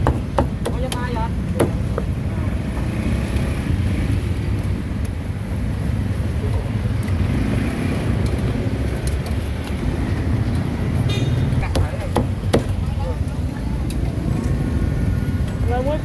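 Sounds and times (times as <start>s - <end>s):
low rumble of street traffic: 0.0s - 16.0s.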